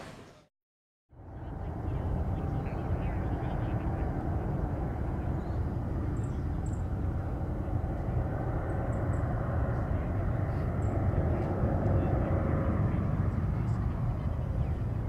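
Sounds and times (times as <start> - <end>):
jet engine noise: 1.2 - 15.0.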